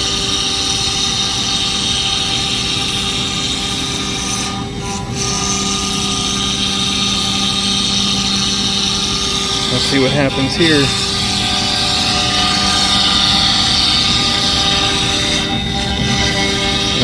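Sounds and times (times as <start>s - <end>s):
cnc router spindle whine: 0.0s - 17.0s.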